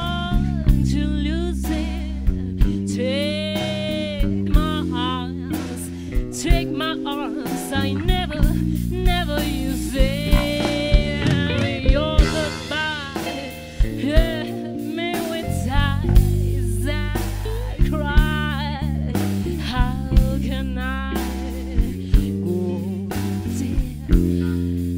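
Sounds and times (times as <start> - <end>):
blues band playing: 0.0 - 24.9
woman singing: 0.0 - 24.9.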